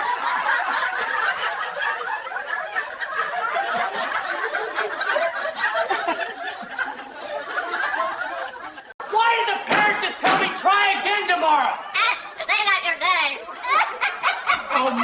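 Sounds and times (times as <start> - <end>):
crowd laughing: 0.0 - 15.0.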